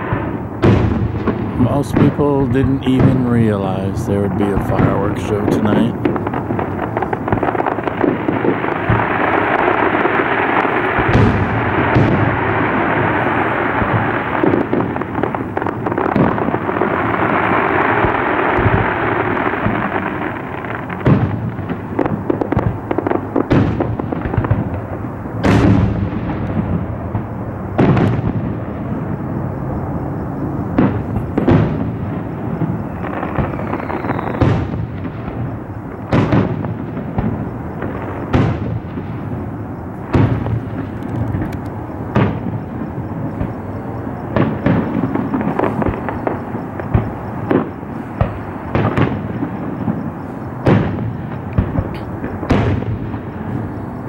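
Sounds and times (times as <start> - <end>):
fireworks booming: 0.0 - 54.0
fireworks rumble and crackle: 0.0 - 54.0.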